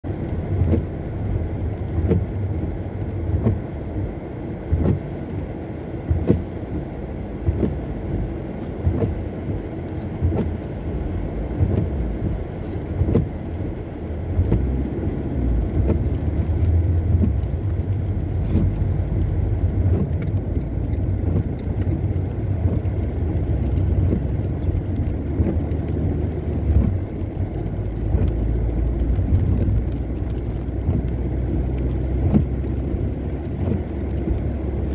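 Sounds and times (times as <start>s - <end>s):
car driving on wet road: 0.0s - 34.9s
rain: 0.1s - 34.9s.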